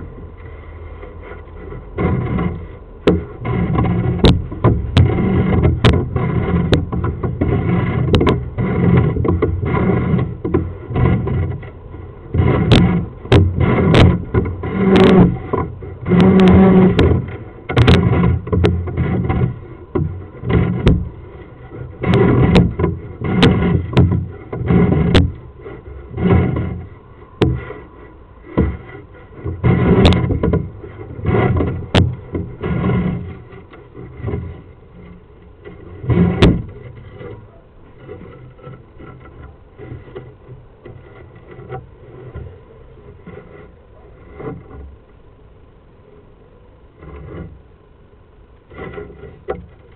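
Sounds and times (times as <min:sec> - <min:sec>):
rod scraping and knocking in pipe: 0:00.0 - 0:45.1, 0:47.0 - 0:47.7, 0:48.6 - 0:49.9.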